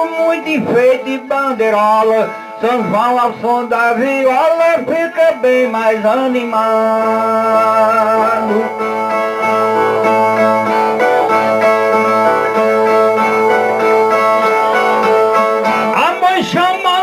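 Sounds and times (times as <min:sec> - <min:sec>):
man singing: 0:00.0 - 0:17.0
plucked guitar notes: 0:00.0 - 0:17.0.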